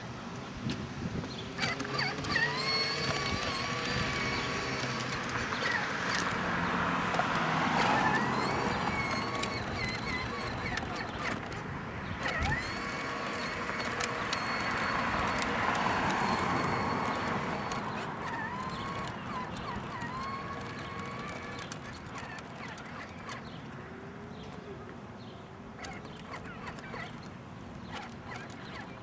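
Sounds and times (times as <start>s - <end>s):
cars passing on road: 0.0s - 29.0s
birds chirping: 1.2s - 29.0s.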